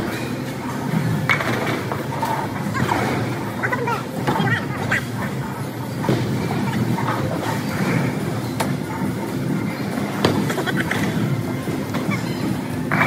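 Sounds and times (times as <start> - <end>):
bowling balls rolling: 0.0 - 13.0.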